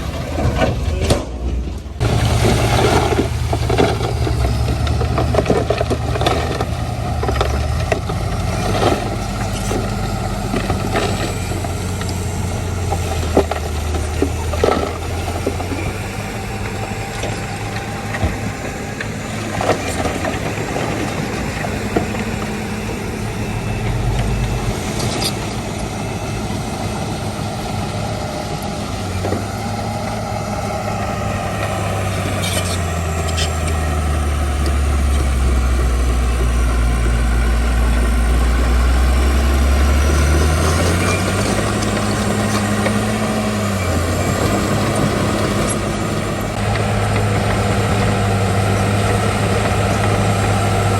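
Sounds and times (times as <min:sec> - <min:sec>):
diesel earthmoving machinery running: 0:00.0 - 0:50.9.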